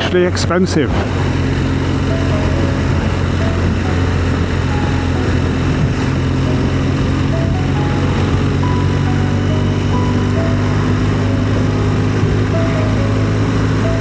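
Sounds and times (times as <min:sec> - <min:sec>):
wind noise: 0:00.0 - 0:14.0
motorcycle engine running: 0:00.8 - 0:14.0.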